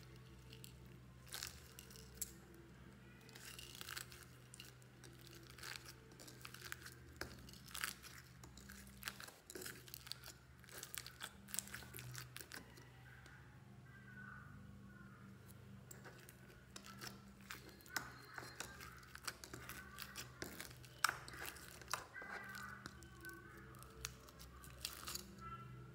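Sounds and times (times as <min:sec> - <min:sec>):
foam-bead slime crackling and popping: 0:00.0 - 0:02.4, 0:03.1 - 0:12.8, 0:15.9 - 0:25.4.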